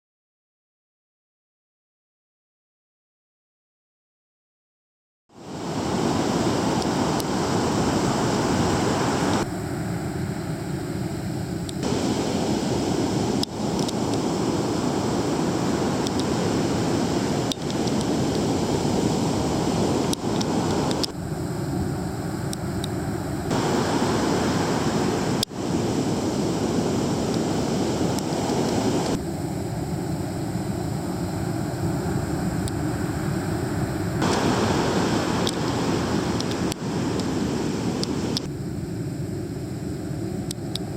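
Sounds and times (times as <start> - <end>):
ocean surf breaking: 5.4 - 38.5.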